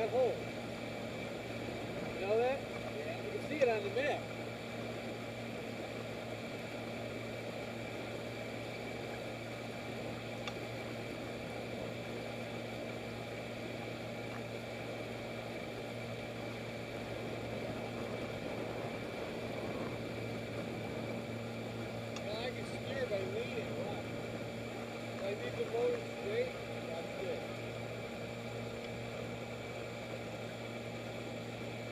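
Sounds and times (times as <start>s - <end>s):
outboard motor running: 0.0s - 31.9s.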